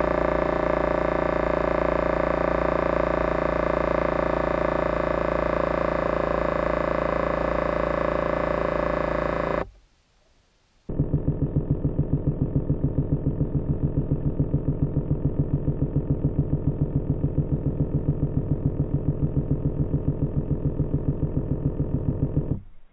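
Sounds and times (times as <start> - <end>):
small motor puttering: 0.0 - 9.7, 10.9 - 22.6.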